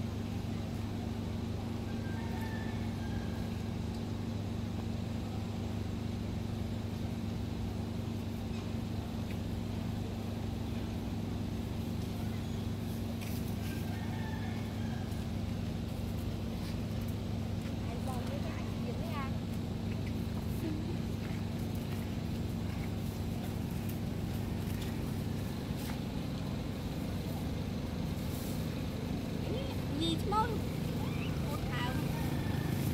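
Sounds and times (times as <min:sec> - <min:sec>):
low motor hum: 0:00.0 - 0:32.9.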